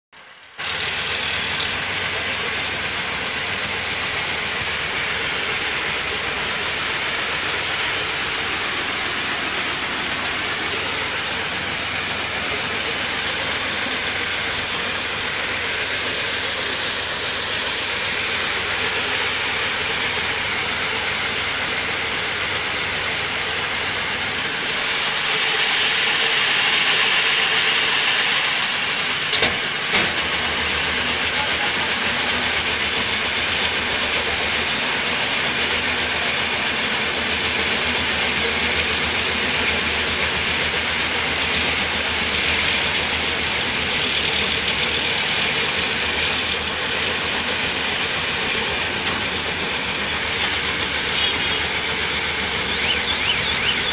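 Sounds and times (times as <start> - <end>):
baler machine running: 0.2 - 53.9.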